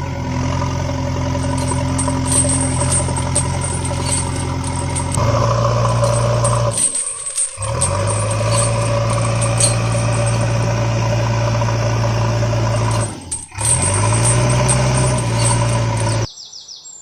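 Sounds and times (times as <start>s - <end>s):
vehicle engine idling: 0.0s - 16.3s.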